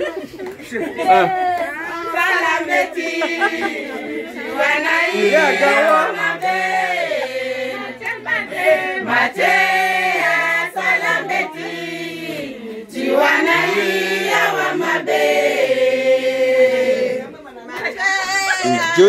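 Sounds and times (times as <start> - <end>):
women singing together: 0.0 - 18.6.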